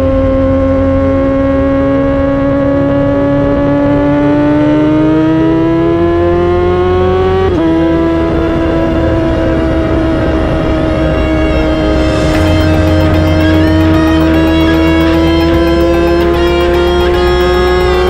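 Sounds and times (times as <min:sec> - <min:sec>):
motorcycle engine at high revs: 0:00.0 - 0:18.0.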